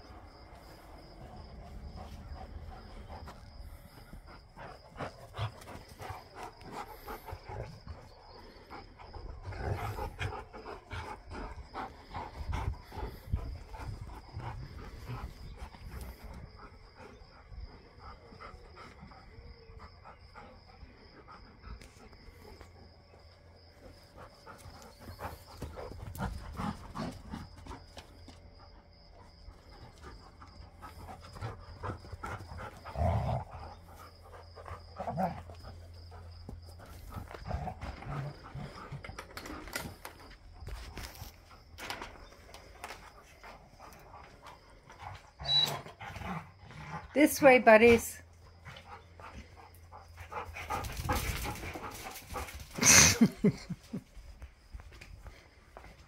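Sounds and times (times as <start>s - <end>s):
dogs panting: 0.0s - 56.0s.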